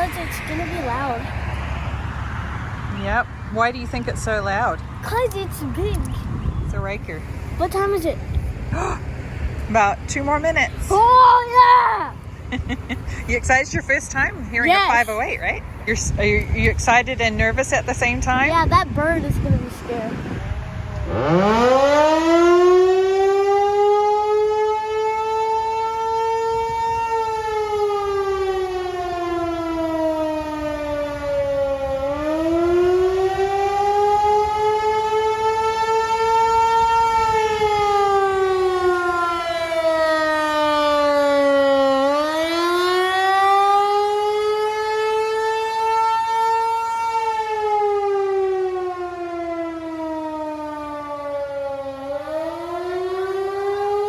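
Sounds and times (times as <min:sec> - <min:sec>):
tornado siren wailing: 0:08.6 - 0:18.4, 0:19.6 - 0:54.0.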